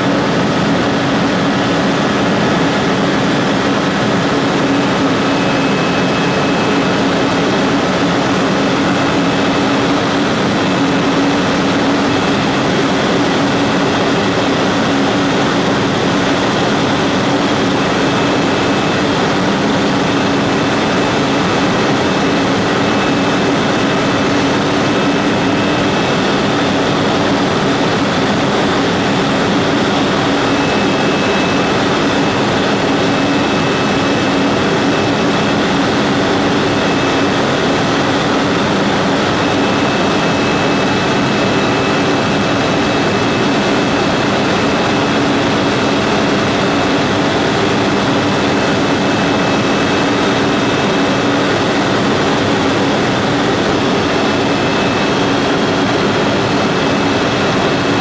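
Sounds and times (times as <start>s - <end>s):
helicopter cabin drone: 0.0s - 58.0s.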